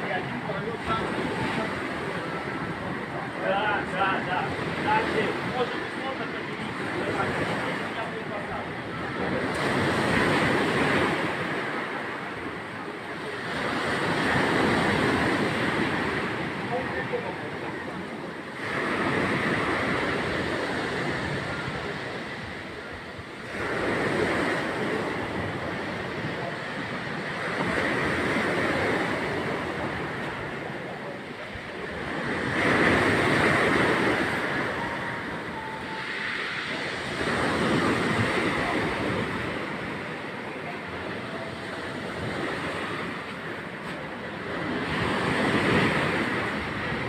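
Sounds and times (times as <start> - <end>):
sea surf breaking on shore: 0.0 - 47.0.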